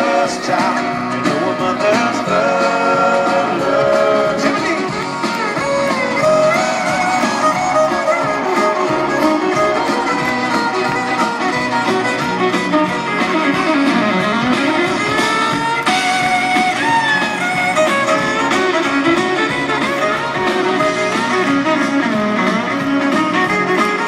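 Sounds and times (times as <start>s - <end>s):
strummed guitars: 0.0s - 24.0s
fiddle melody: 0.4s - 24.0s.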